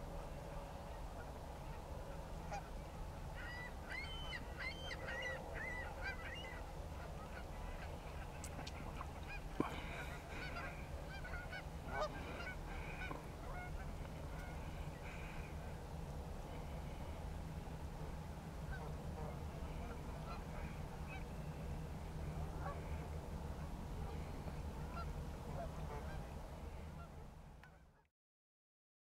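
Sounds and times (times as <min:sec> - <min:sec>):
geese honking: 0:00.5 - 0:15.8, 0:18.0 - 0:27.8.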